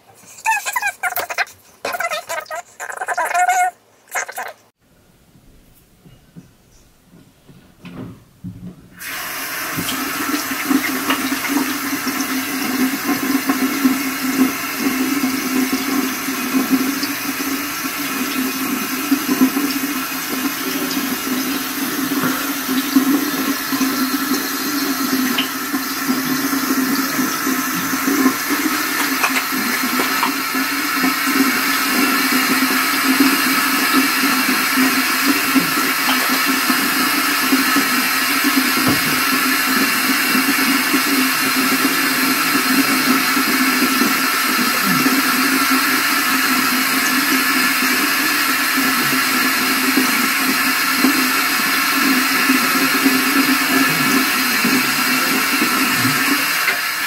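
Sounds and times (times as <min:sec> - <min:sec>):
tap water running into basin: 0:09.0 - 0:57.0.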